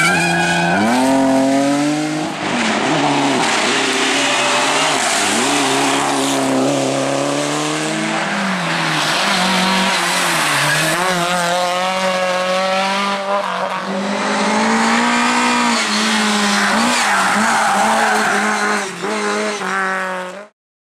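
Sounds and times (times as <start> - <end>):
rally car engine revving: 0.0 - 20.5.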